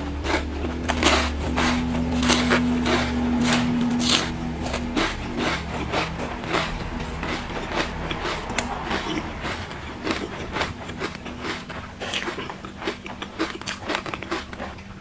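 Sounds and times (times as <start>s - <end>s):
ice being chewed: 0.0s - 15.0s
steady low hum: 0.0s - 15.0s.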